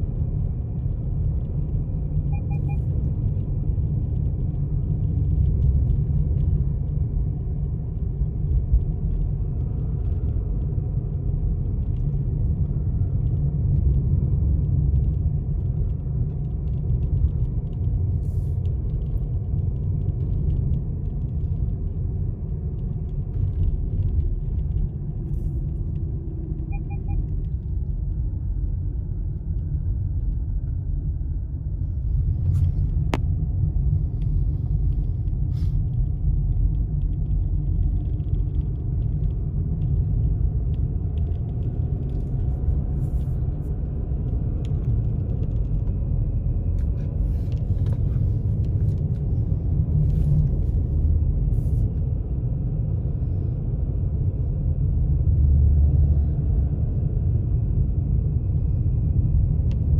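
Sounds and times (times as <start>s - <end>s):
car interior road noise: 0.0s - 59.9s.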